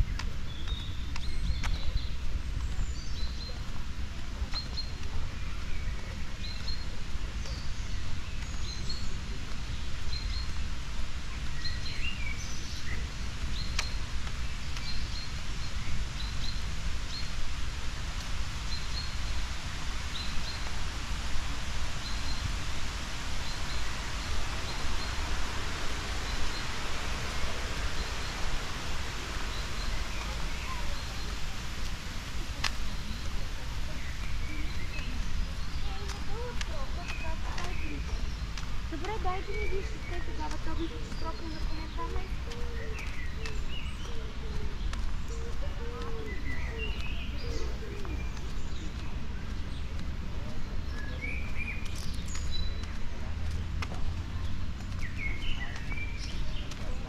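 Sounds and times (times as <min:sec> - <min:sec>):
low rumble and hiss: 0:00.0 - 0:57.0
small birds chirping: 0:00.0 - 0:57.0.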